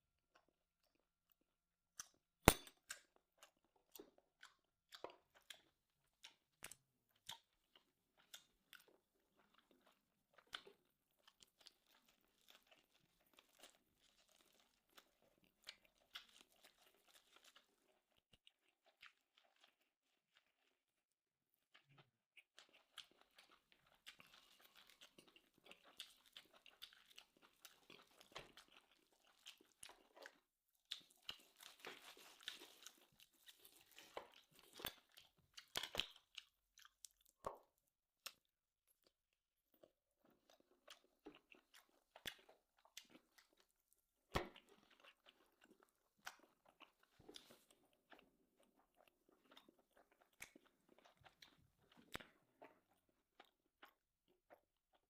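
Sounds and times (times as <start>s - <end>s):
person chewing and crunching food: 0.2s - 55.0s.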